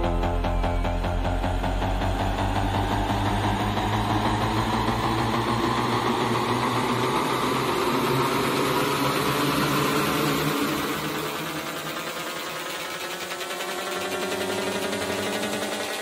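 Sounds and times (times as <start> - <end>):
droning synth: 0.0 - 16.0
rising noise sweep: 0.0 - 16.0.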